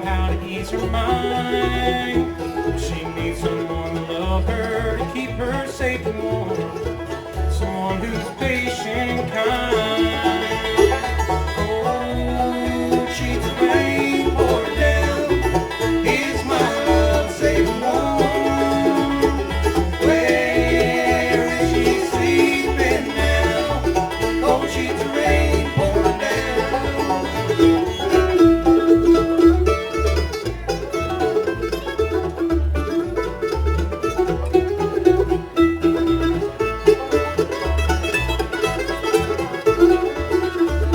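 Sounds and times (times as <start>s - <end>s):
bluegrass band playing: 0.0s - 40.9s.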